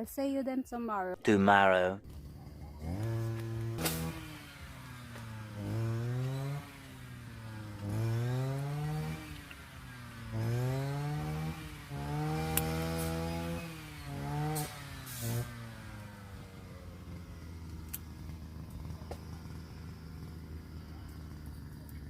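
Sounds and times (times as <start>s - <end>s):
small engine revving: 2.0s - 22.0s.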